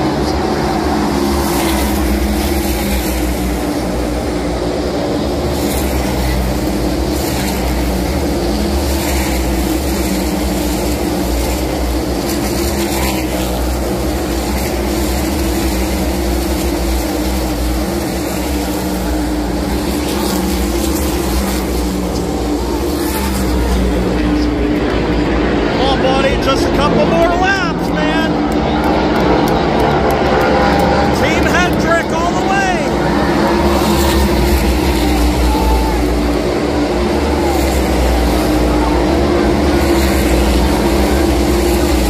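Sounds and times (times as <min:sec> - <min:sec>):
race car engines droning: 0:00.0 - 0:42.0.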